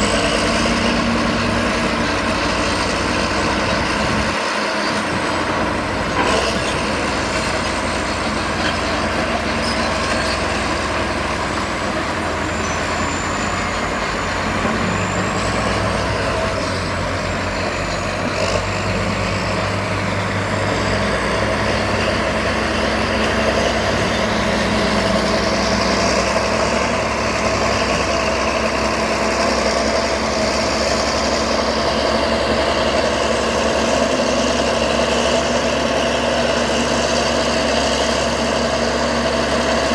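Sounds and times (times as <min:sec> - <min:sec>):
diesel machinery engine: 0:00.0 - 0:39.9.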